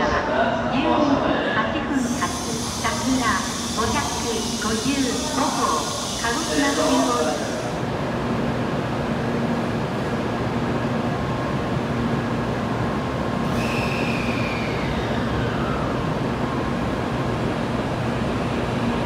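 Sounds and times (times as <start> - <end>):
train hum and rumble: 0.0 - 19.0.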